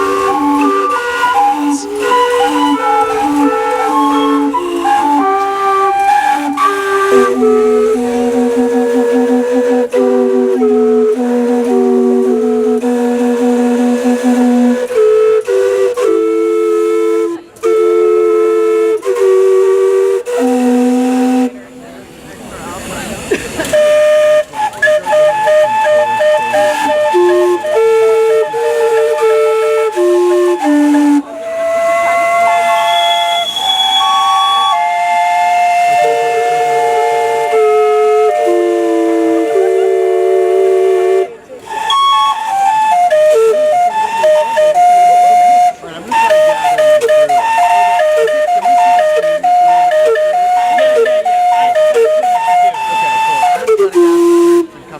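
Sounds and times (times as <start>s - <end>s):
low held whistle note: 0.0s - 21.7s, 23.7s - 54.8s
steam whistles playing a tune: 0.0s - 21.9s, 23.4s - 54.9s
steam hissing: 0.0s - 54.9s.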